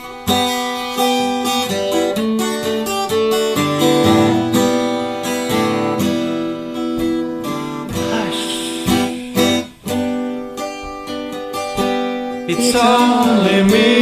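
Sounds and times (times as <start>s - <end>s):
acoustic guitar instrumental: 0.0s - 14.0s.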